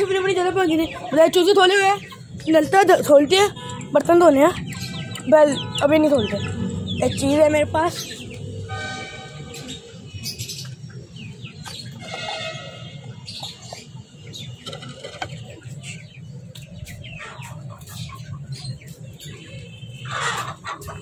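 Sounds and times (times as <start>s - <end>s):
pet birds chirping: 0.0s - 21.0s.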